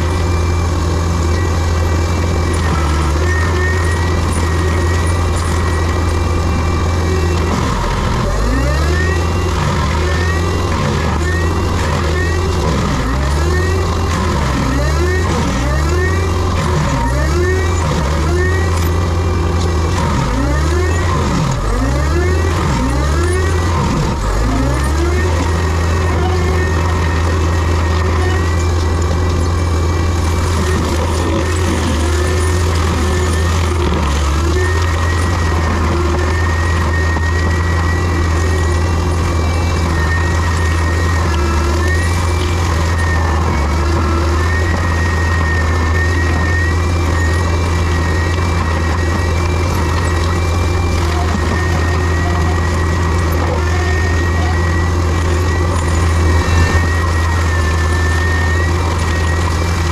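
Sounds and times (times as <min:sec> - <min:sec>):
heavy diesel machine running: 0:00.0 - 0:59.9.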